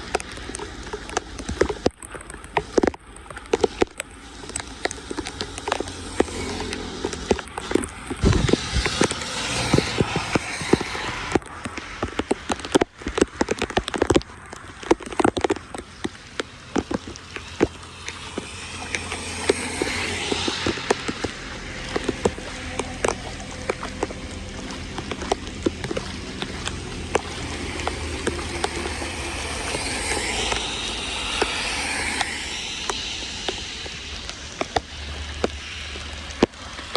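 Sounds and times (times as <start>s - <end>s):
floodwater running: 0.0s - 36.9s
sharp knocks and clicks: 0.1s - 33.6s.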